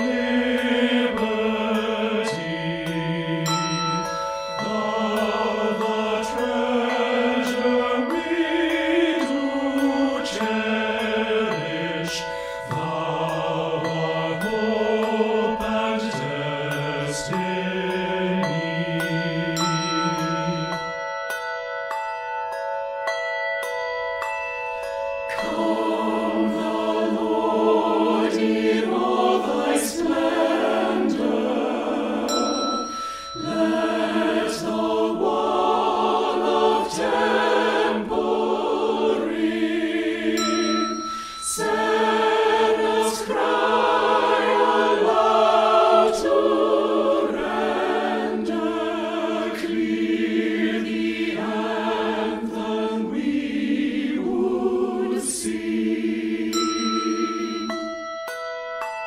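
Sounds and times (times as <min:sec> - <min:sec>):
choir singing a hymn: 0:00.0 - 0:20.8, 0:25.3 - 0:58.0
instrumental accompaniment: 0:00.0 - 0:59.0
ringing chime-like tones: 0:00.0 - 0:59.0.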